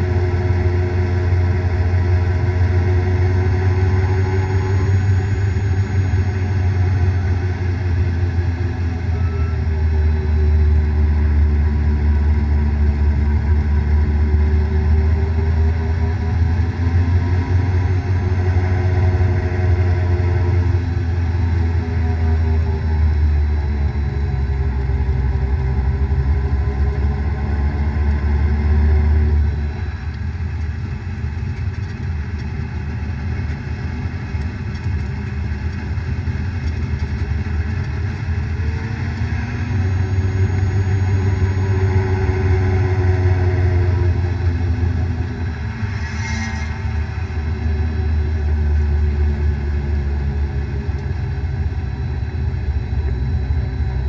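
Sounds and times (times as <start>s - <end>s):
vehicle bearing drone: 0.0s - 54.0s.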